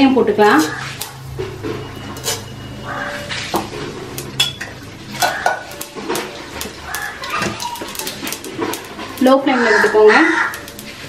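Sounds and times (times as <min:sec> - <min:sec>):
seeds crackling in hot oil: 0:00.0 - 0:11.0.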